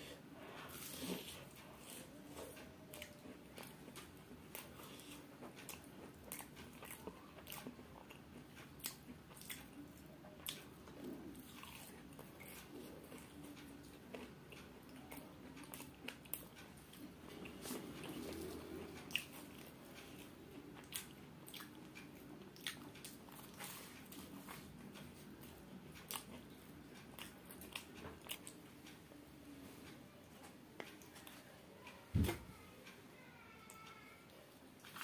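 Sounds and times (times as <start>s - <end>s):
crunchy pastry chewing: 0.5s - 28.6s.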